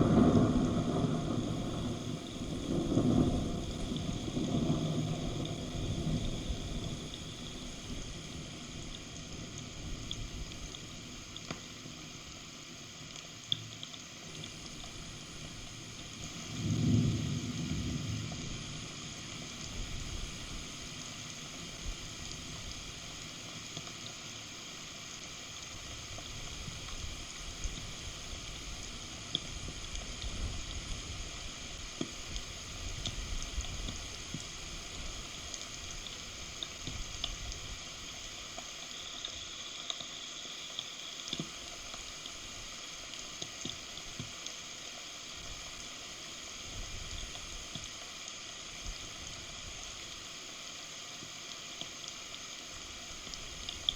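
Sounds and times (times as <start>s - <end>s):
heavy rain falling: 0.0s - 13.2s, 14.2s - 53.9s.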